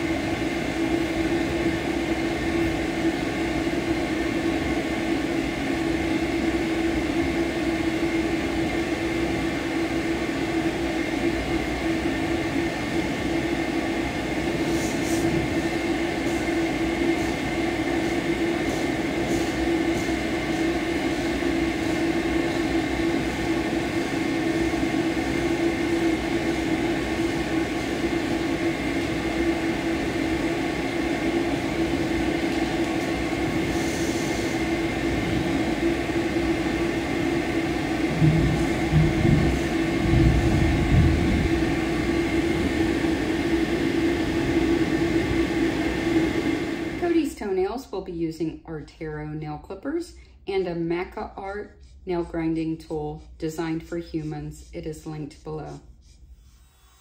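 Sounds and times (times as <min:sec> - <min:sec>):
blow dryer blowing: 0:00.0 - 0:47.7.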